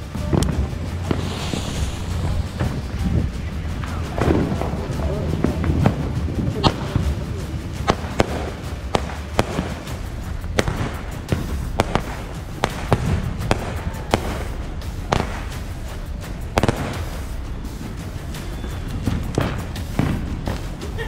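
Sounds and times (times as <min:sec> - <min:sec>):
background music: 0:00.0 - 0:21.0
firework cracks and pops: 0:00.0 - 0:21.0.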